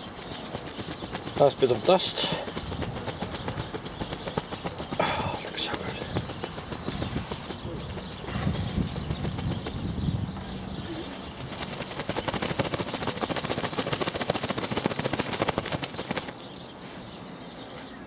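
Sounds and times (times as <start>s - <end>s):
vacuum cleaner bag being shaken: 0.2s - 10.1s, 11.4s - 16.4s.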